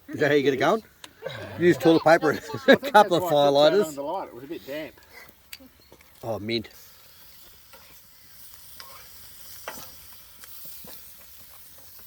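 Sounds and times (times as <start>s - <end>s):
campfire crackling and hissing: 0.0s - 12.0s.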